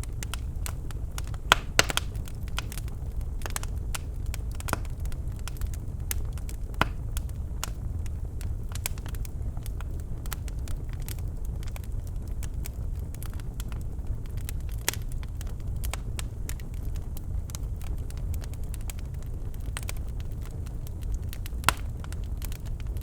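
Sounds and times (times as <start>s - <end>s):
fire pops and snaps: 0.0s - 23.0s
low rumble of burning fire: 0.0s - 23.0s.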